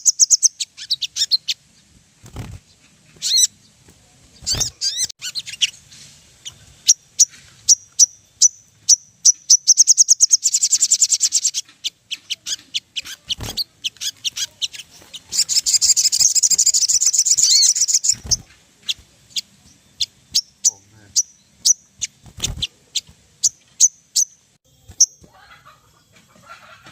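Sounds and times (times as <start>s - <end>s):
sunbird chips and trills: 0.0s - 26.8s.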